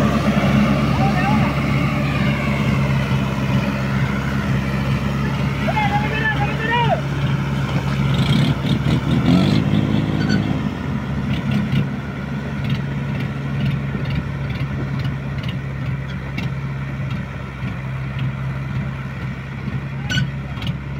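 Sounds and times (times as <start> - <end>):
tractor diesel engine labouring: 0.0 - 20.9.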